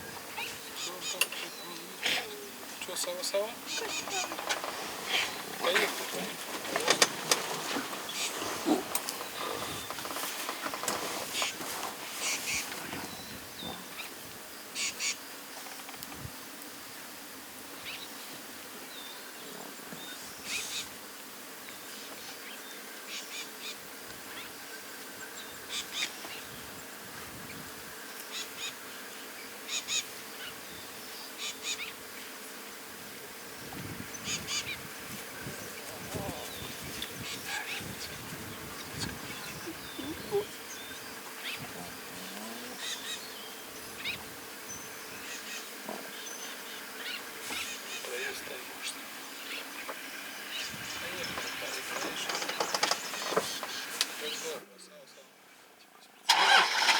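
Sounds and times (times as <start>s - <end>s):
flies buzzing: 0.0s - 56.9s
outdoor hiss: 0.0s - 56.9s.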